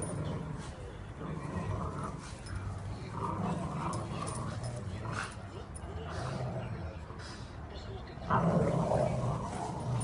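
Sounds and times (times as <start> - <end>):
dogs growling in play: 0.0 - 7.2, 8.2 - 10.0.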